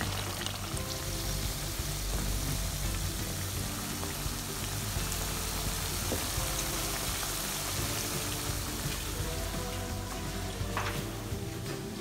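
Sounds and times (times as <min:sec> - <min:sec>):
background music: 0:00.0 - 0:12.0
chicken skin sizzling: 0:00.0 - 0:12.0.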